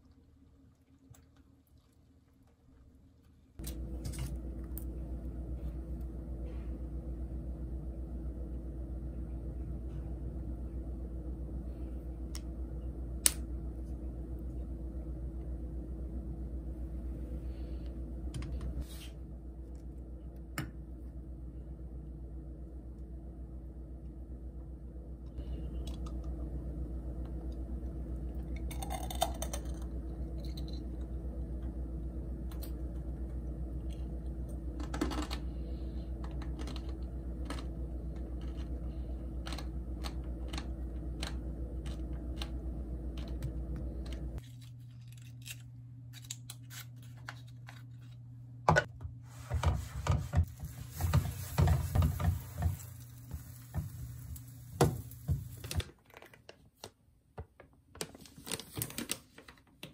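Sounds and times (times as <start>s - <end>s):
steady low hum: 0.0s - 55.8s.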